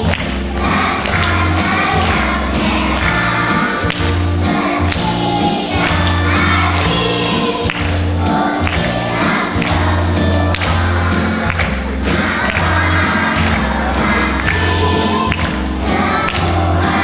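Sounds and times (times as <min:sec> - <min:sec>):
backing track with steady beat: 0:00.0 - 0:17.0
group of voices singing: 0:00.0 - 0:17.0.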